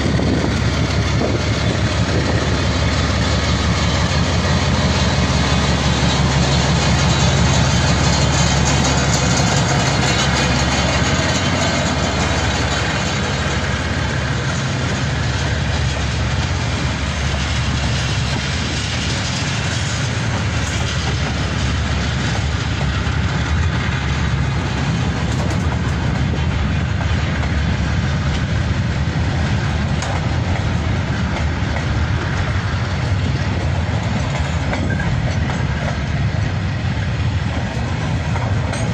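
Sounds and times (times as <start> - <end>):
locomotive engines running: 0.0 - 38.9
train wagons rolling on rails: 0.0 - 38.9.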